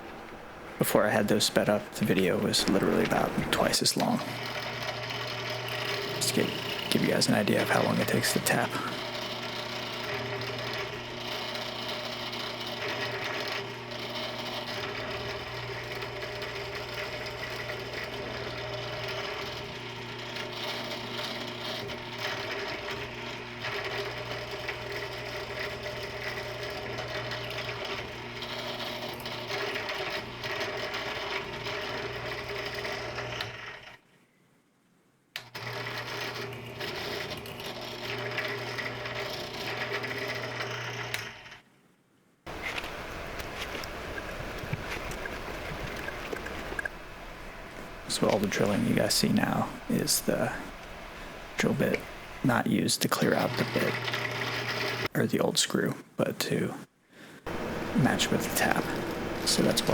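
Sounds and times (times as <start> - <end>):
drill press motor drilling: 0.0 - 34.0, 35.4 - 41.5, 42.5 - 52.4, 53.2 - 55.1, 57.4 - 59.9.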